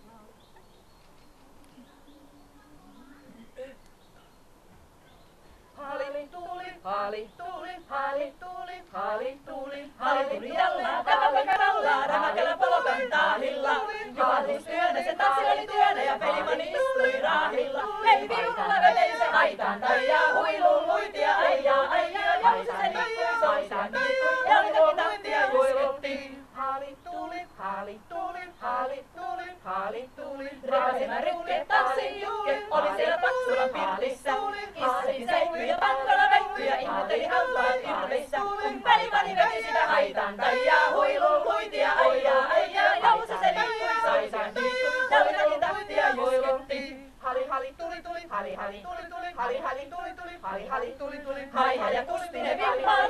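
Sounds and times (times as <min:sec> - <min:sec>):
women's choir singing a cappella: 0:05.8 - 0:53.0.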